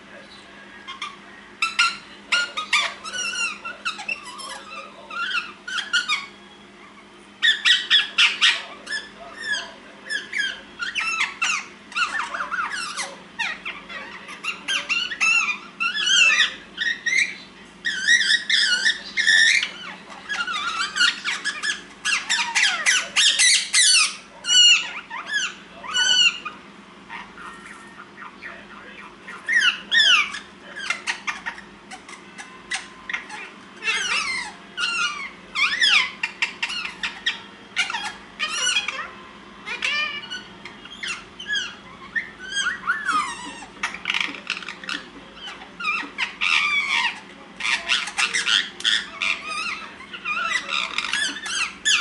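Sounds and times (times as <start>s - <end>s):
parakeets chirping and squawking: 0.0s - 52.0s.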